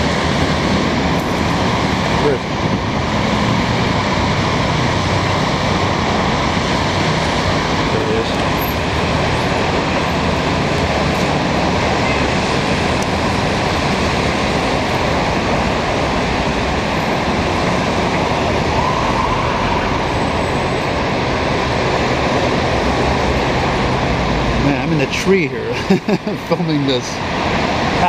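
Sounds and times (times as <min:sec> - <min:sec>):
dense traffic drone: 0:00.0 - 0:28.0.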